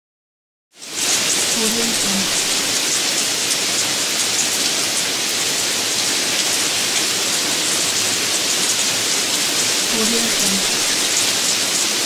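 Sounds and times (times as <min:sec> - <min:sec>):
rain hissing: 0:00.8 - 0:12.0.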